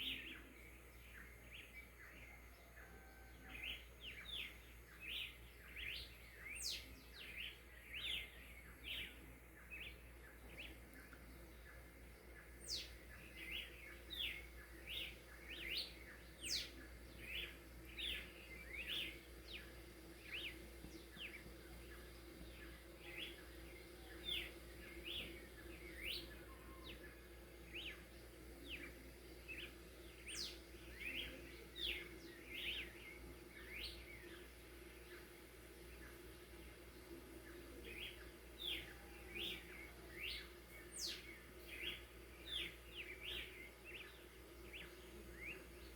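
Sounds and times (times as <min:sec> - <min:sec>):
birds chirping: 0:00.0 - 0:45.9
faint low hum: 0:00.0 - 0:45.9.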